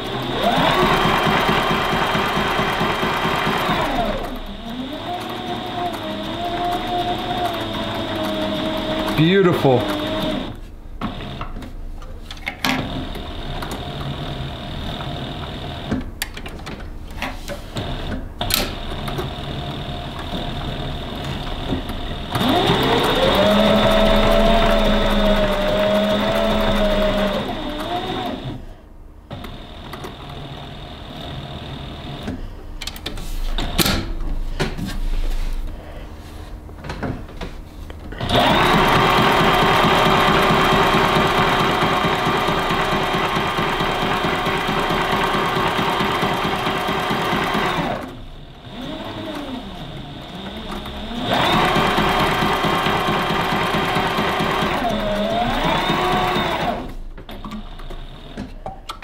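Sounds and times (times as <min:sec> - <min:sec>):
sewing machine stitching leather: 0:00.0 - 0:11.6, 0:12.6 - 0:16.5, 0:17.6 - 0:32.4, 0:38.2 - 0:58.6.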